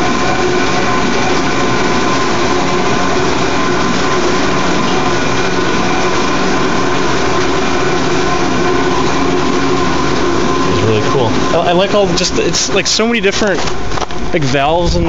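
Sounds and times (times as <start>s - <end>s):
loud mechanical din: 0.0s - 13.9s
machinery hums and whines: 0.0s - 15.0s.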